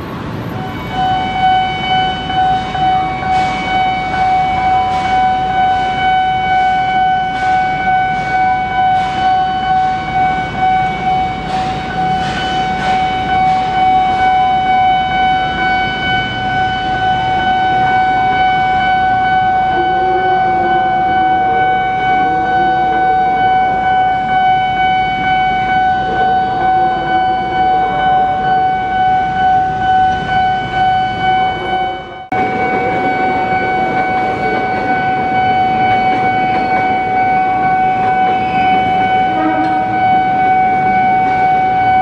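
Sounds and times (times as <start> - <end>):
level crossing alarm pulsing: 0.0 - 42.0
traffic noise: 0.0 - 42.0.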